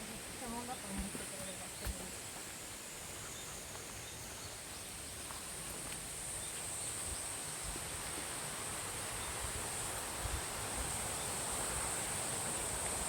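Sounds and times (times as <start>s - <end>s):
cicada drone: 0.0s - 13.0s
even rushing hiss: 0.0s - 13.0s.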